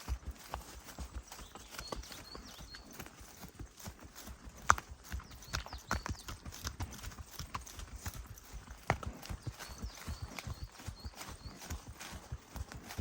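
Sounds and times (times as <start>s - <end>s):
footsteps crunching on forest track: 0.0s - 13.0s.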